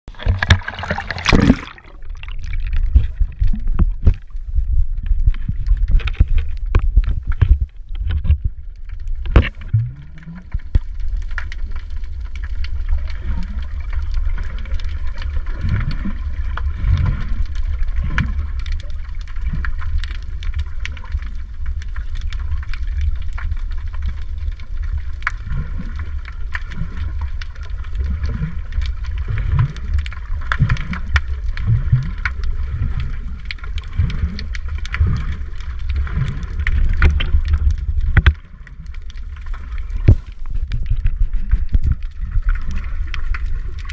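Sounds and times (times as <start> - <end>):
bubbling gurgles: 0.0 - 43.9
muffled underwater rumble: 0.0 - 43.9.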